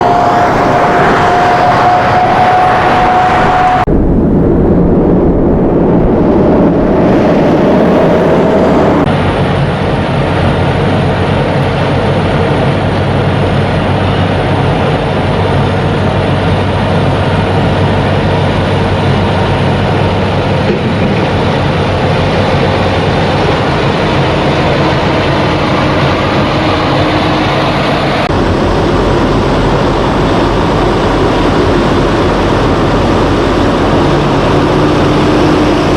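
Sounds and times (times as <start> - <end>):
heavy road noise: 0.0 - 35.9
truck engines running: 5.2 - 35.9.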